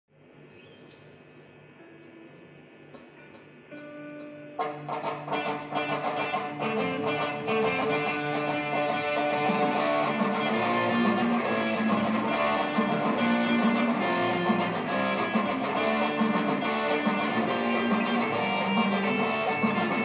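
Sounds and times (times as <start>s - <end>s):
electric guitar sustained notes: 3.8s - 20.0s.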